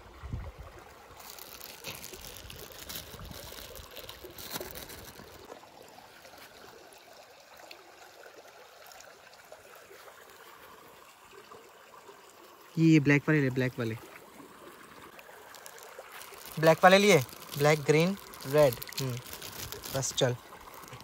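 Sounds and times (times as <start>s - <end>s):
stream water trickling and splashing: 0.0s - 21.0s.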